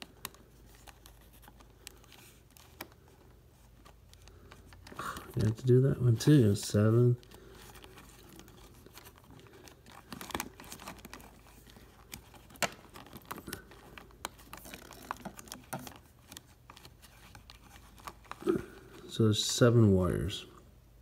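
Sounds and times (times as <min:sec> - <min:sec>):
wires clicking and rustling: 0:00.0 - 0:19.2.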